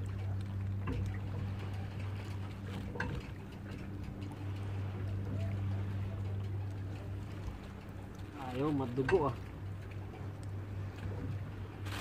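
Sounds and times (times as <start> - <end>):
steady low hum: 0.0 - 12.0
water sloshing against rocks: 0.0 - 12.0.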